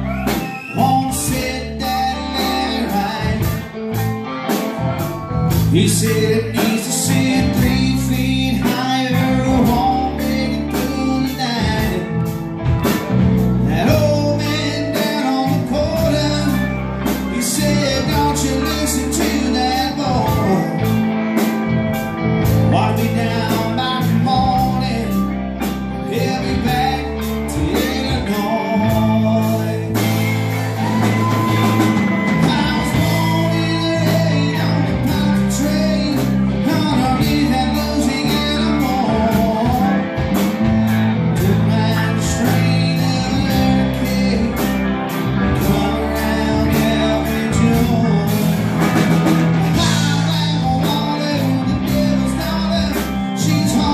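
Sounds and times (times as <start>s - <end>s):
drum kit beat: 0.0s - 53.9s
electric guitars: 0.0s - 53.9s.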